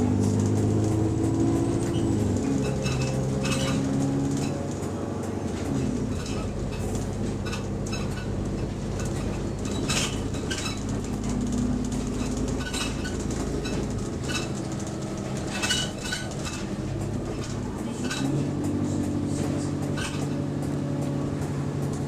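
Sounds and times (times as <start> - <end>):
bus engine running: 0.0 - 22.0
loose interior rattling: 0.4 - 22.0.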